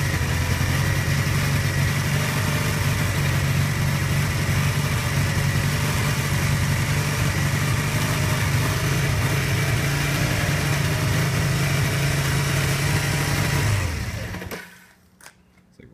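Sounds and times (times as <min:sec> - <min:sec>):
motorcycle engine rough idle: 0:00.0 - 0:14.7.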